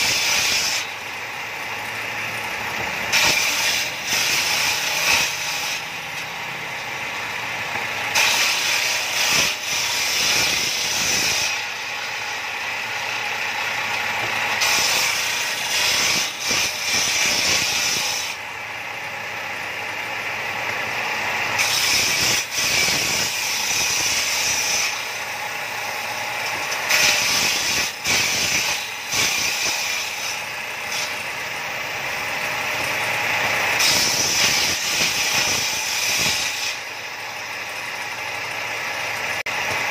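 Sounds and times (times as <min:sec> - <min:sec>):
saw blade running free: 0:00.0 - 0:06.4, 0:07.4 - 0:18.5, 0:21.4 - 0:39.9
circular saw cutting wood: 0:00.0 - 0:39.9.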